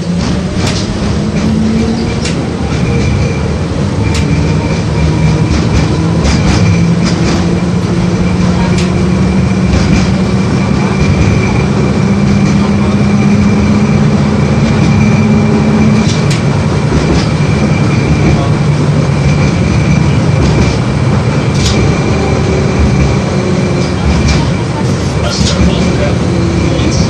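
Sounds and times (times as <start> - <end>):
tram wheel and rail rumble: 0.0 - 27.0.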